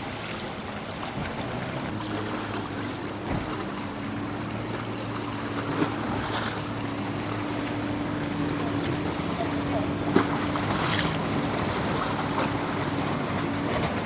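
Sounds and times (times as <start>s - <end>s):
boat engine humming: 0.0s - 14.0s
surf: 0.0s - 14.0s.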